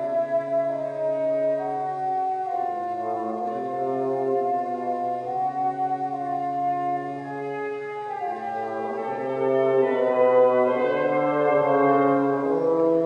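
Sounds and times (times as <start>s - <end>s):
orchestral brass chords: 0.0s - 13.0s.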